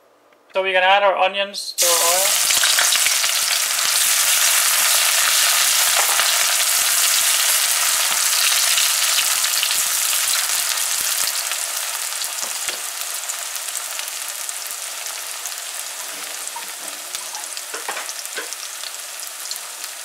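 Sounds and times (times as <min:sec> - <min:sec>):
onions sizzling in hot oil: 0:01.8 - 0:20.0.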